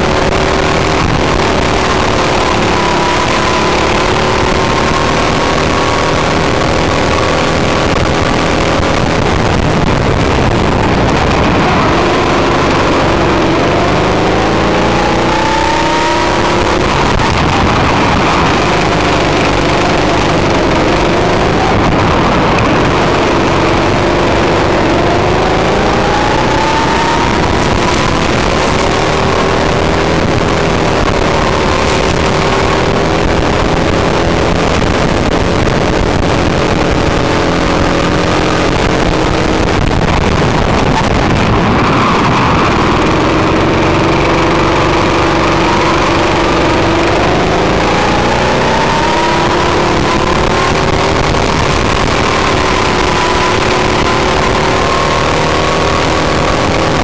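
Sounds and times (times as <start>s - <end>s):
go-kart engine racing: 0.0s - 57.0s.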